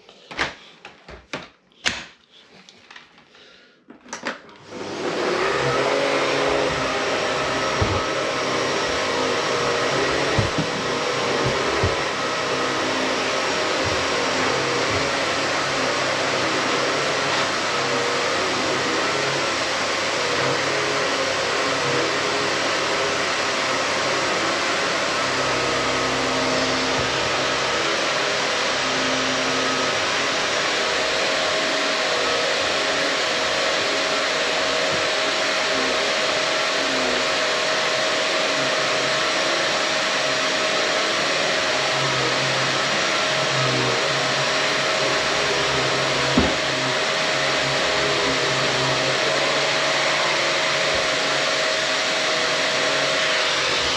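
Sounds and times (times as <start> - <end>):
vacuum cleaner whining: 2.4 - 53.9.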